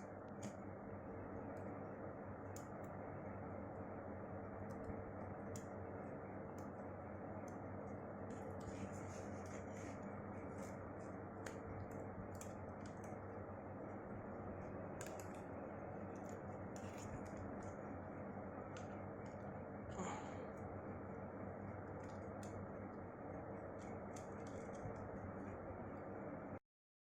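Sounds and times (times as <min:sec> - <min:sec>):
low background hum: 0:00.0 - 0:26.6.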